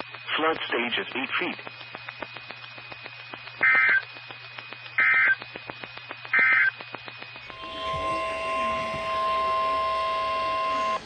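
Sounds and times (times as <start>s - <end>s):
clicking radio static: 0.0s - 11.0s
steady hum: 0.0s - 11.0s.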